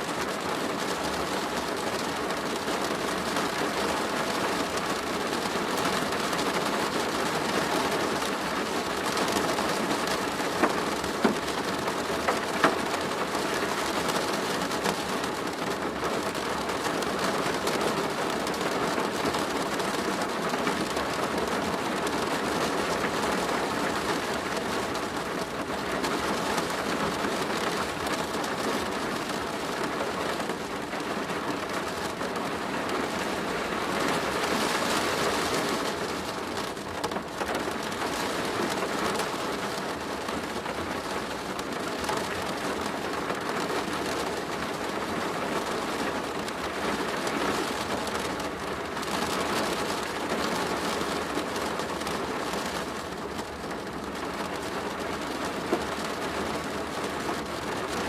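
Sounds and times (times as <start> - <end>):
rain on a plastic roof: 0.0 - 58.0.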